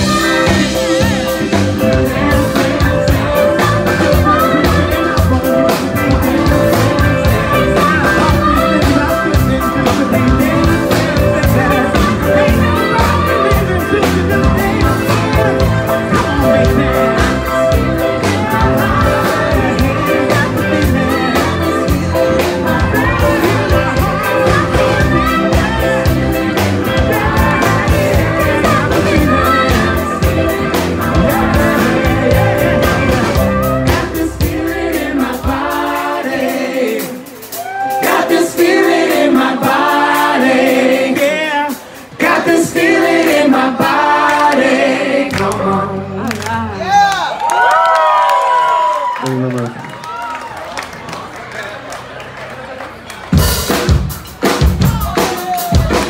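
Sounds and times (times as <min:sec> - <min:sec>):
bass and drums: 0:00.0 - 0:46.1, 0:53.2 - 0:56.0
people singing: 0:00.0 - 0:46.7
live band playing: 0:00.0 - 0:56.0.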